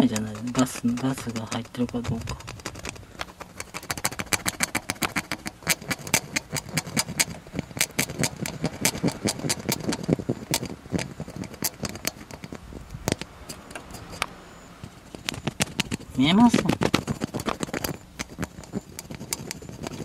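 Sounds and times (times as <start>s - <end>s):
tool scraping paint off glass: 0.0s - 20.0s.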